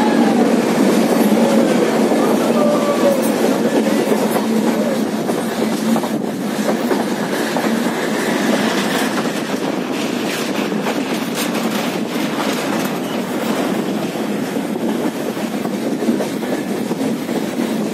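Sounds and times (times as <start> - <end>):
train wheels rumbling: 0.0 - 17.9
faint clicks from rails: 0.2 - 17.9.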